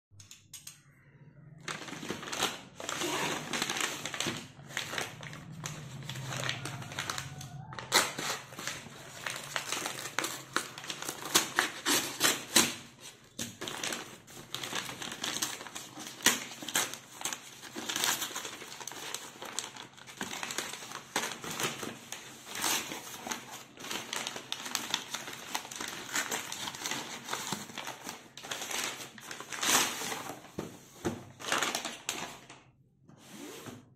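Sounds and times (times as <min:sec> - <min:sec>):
paper bag crinkling and tearing: 0:01.6 - 0:32.6.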